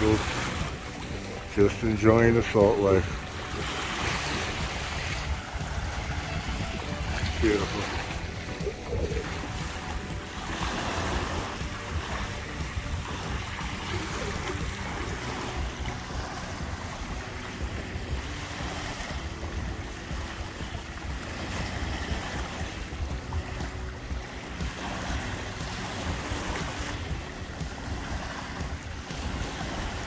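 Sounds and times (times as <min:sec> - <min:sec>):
small waves lapping on sand: 0:00.0 - 0:30.0
wind buffeting microphone: 0:00.0 - 0:30.0.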